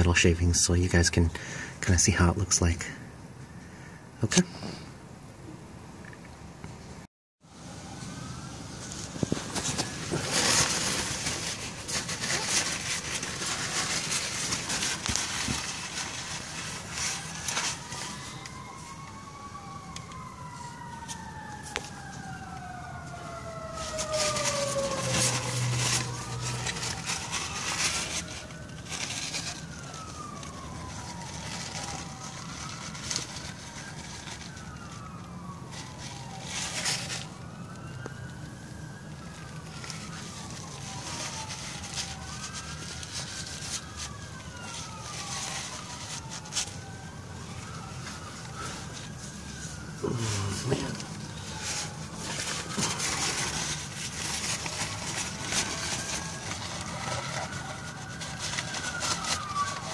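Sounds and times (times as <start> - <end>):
siren wailing: 7.5 - 59.9.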